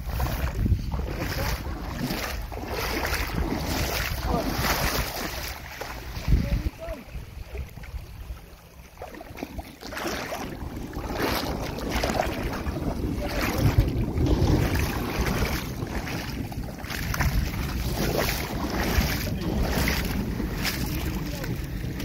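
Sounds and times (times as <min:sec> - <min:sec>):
water sloshing from wading: 0:00.0 - 0:22.0
wind buffeting microphone: 0:00.0 - 0:22.0.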